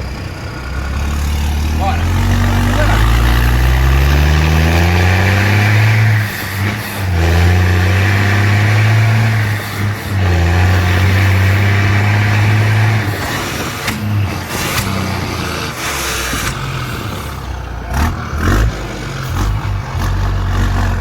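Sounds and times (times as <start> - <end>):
diesel truck engine pulling away: 0.0 - 21.0.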